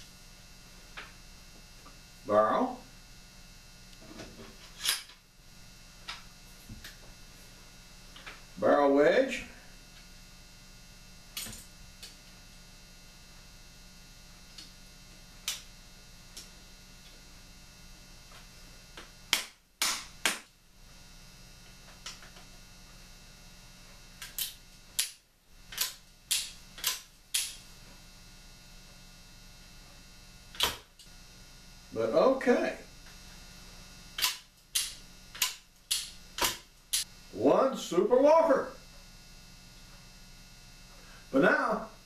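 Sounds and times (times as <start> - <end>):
steady mains hum: 0.0 - 42.0.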